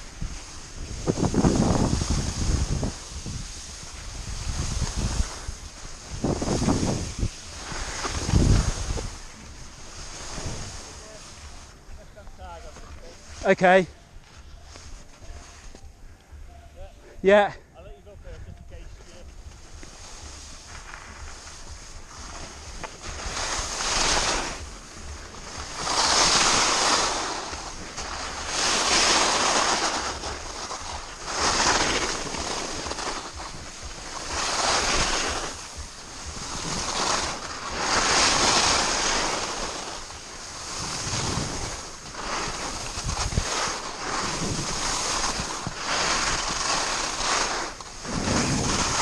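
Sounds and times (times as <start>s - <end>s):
wind rumbling on microphone: 0.0s - 12.1s, 18.0s - 49.0s
ski edges scraping snow: 0.0s - 15.7s, 19.0s - 49.0s.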